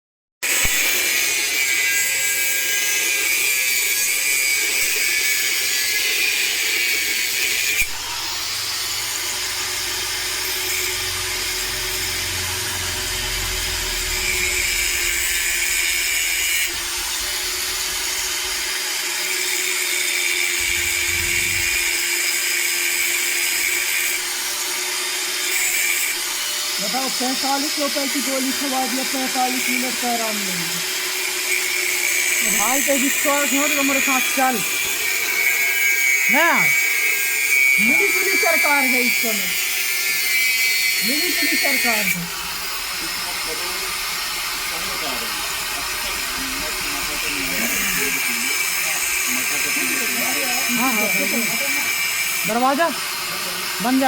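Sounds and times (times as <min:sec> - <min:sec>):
angle grinder grinding: 0:00.4 - 0:54.0.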